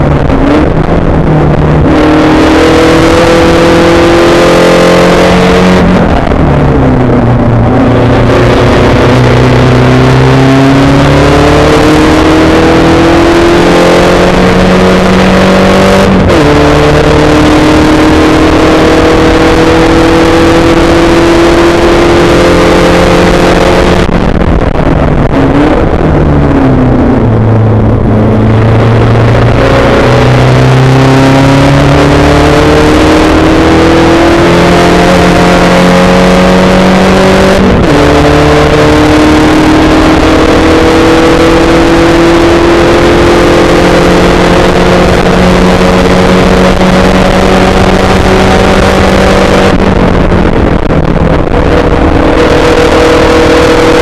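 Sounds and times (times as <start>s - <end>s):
race car engine revving: 0.0s - 54.0s
rush of wind noise: 0.0s - 54.0s.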